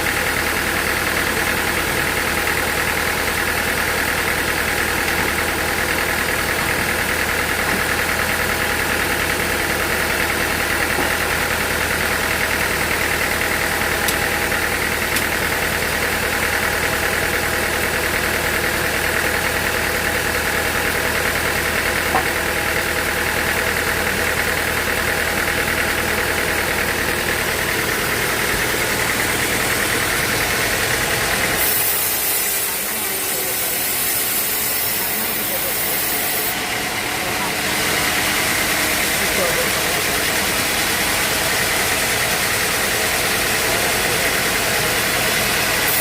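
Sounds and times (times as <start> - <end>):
machinery engine drone: 0.0 - 46.0.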